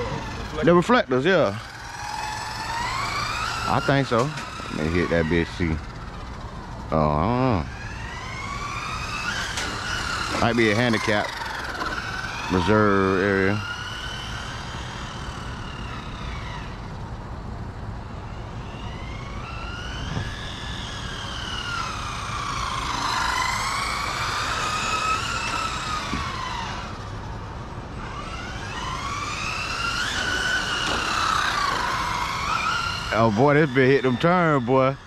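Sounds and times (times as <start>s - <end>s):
electric motors whining: 0.0s - 35.0s
tyres rumbling on asphalt: 0.0s - 35.0s.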